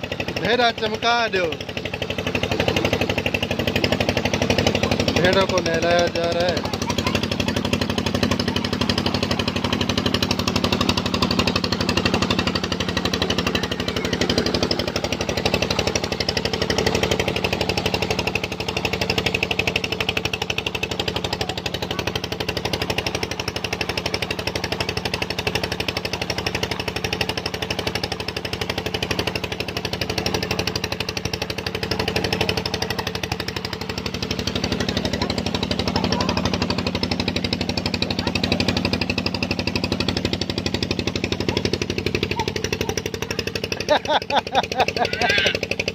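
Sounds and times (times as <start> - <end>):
pump engine chugging: 0.0 - 45.9.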